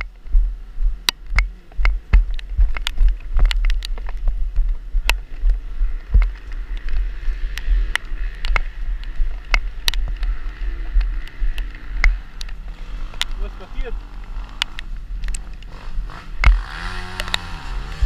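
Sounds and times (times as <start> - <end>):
muffled dirt bike rumble: 0.0 - 18.0
sharp clicks and knocks: 1.0 - 15.8, 16.4 - 17.5.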